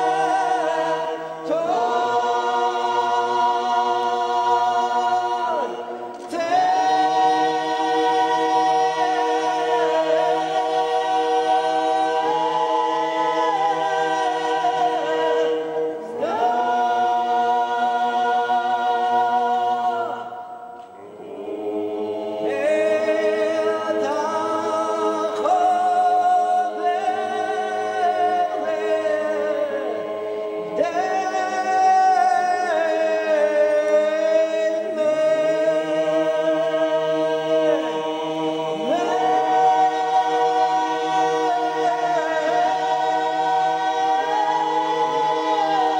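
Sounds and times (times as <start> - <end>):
men's choir chanting: 0.0 - 45.9.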